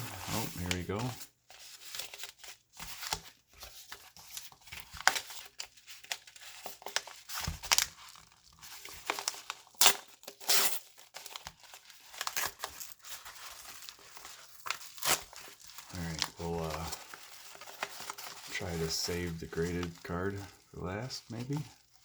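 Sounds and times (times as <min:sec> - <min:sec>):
tape and wrapping tearing: 0:00.0 - 0:01.1, 0:04.0 - 0:22.0.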